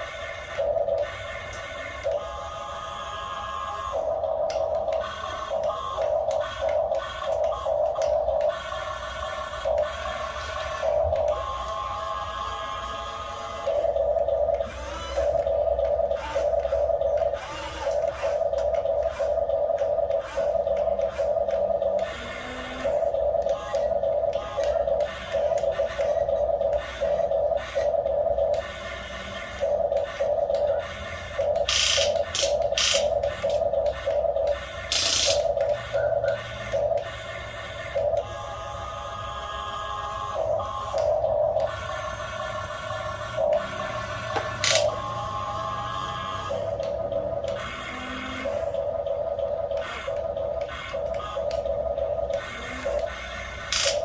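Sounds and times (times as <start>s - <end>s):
small electric motor whining: 0.0s - 54.0s.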